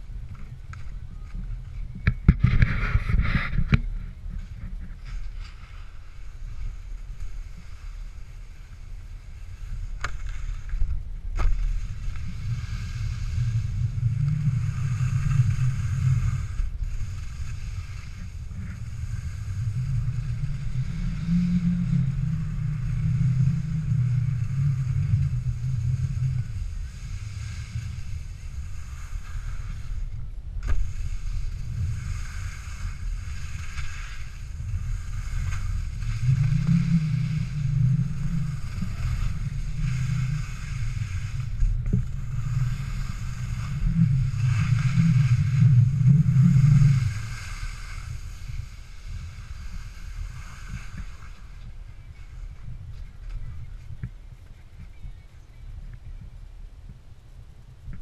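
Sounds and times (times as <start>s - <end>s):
skis scraping over snow: 0.0s - 54.1s
wind buffeting microphone: 0.0s - 58.0s.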